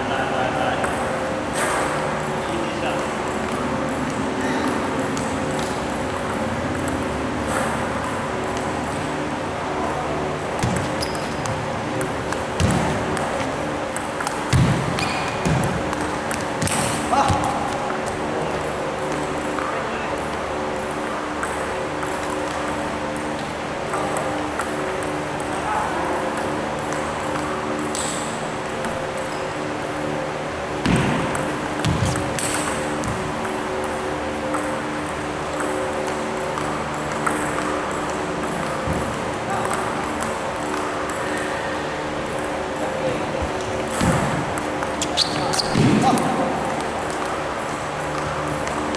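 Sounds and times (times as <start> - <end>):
steady hall hum: 0.0 - 48.9.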